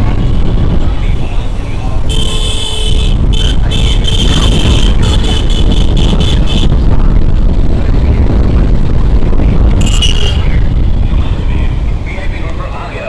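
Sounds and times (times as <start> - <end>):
road noise: 0.0 - 13.0
wind rumble on microphone: 0.0 - 13.0.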